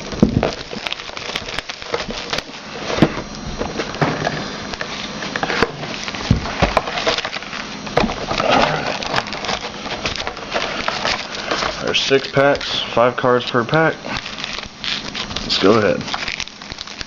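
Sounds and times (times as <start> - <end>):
packaging being opened by hand: 0.0 - 17.0.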